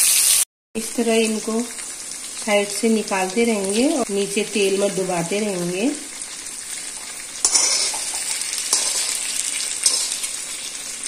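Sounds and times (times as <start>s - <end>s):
okra sizzling in oil: 0.0s - 11.0s.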